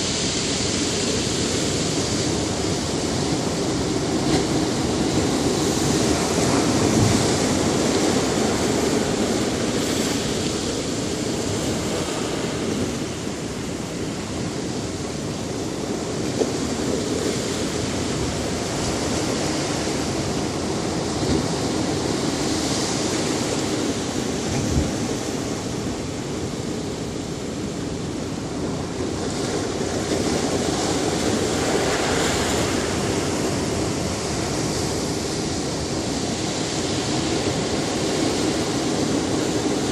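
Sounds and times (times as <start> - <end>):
waves washing onto a beach: 0.0 - 39.9.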